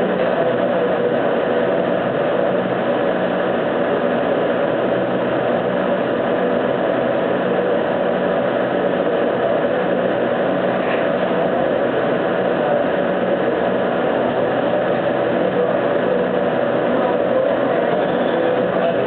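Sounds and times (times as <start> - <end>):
laser cutter fans humming: 0.0 - 19.0.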